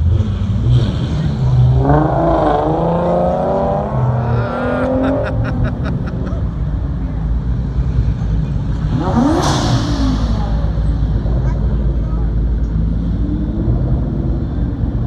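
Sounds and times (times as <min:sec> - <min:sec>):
car revving and rolling past: 0:00.0 - 0:15.0
sports car engines rumbling: 0:00.0 - 0:15.0.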